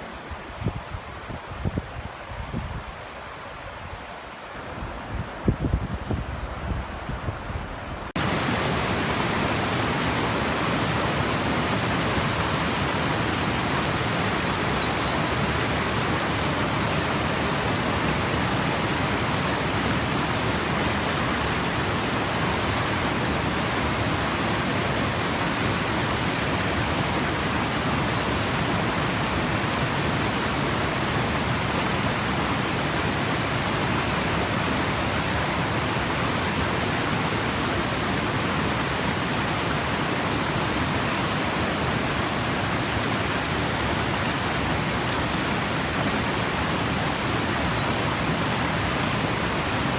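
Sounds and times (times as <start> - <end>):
whitewater stream rushing: 8.2 - 49.9.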